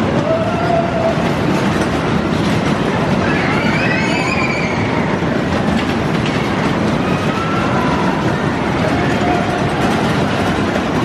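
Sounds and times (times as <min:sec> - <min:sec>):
fairground ride rumbling and rattling: 0:00.0 - 0:11.0.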